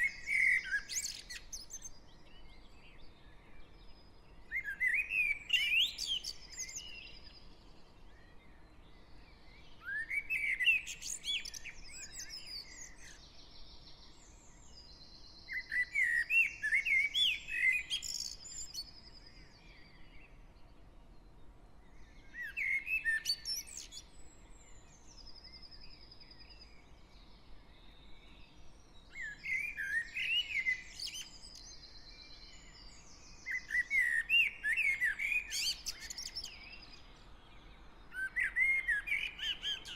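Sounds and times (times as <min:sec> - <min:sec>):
faint bird trills and chirps: 0:00.0 - 0:39.9.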